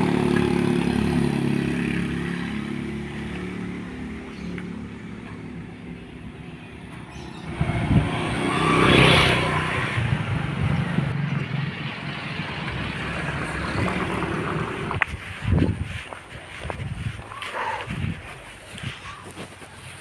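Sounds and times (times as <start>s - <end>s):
vehicle passing by: 0.0s - 19.2s.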